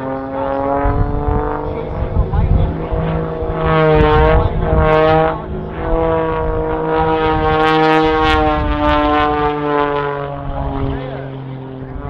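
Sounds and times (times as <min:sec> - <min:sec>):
propeller plane engine overhead: 0:00.0 - 0:12.0.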